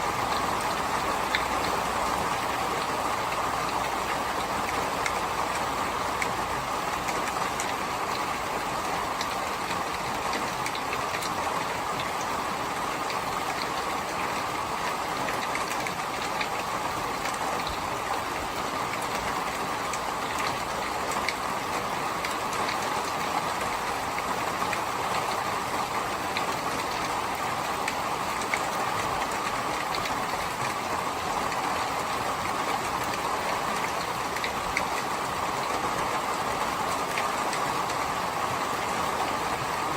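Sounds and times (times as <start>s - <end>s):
steady rain hiss: 0.0s - 39.9s
raindrop ticks: 0.1s - 8.4s, 9.0s - 39.9s.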